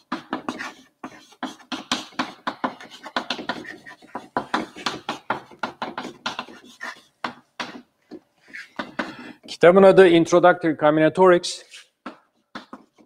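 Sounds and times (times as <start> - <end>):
chalk writing on chalkboard: 0.0 - 9.5, 11.6 - 13.0.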